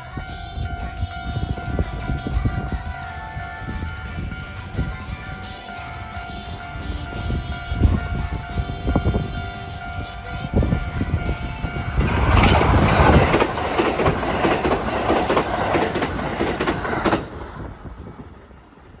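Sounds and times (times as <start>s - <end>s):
crossing bell ringing: 0.0s - 17.2s
train wheels clacking: 0.0s - 18.4s.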